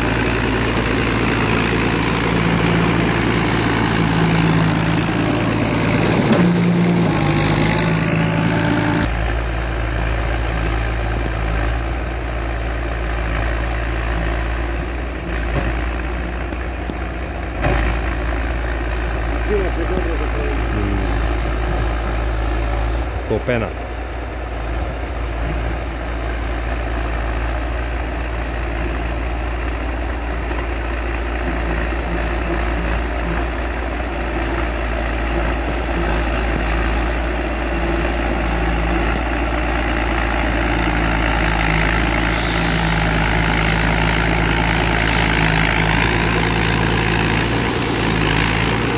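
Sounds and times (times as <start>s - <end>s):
bulldozer blade pushing dirt: 0.0s - 48.9s
bulldozer diesel engine running: 0.0s - 48.9s.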